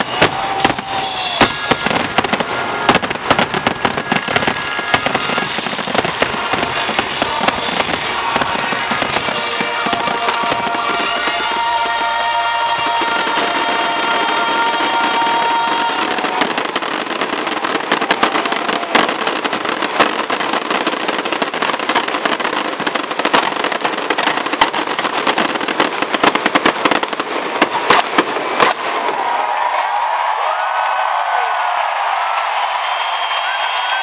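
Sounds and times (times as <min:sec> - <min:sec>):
rapid crackling reports: 0:00.0 - 0:29.0
ground fountains hissing and crackling: 0:00.0 - 0:34.0.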